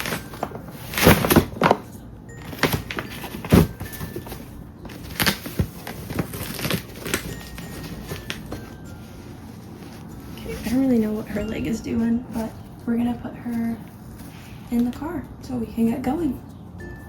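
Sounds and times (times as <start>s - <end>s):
fabric rustling: 0.0s - 14.9s.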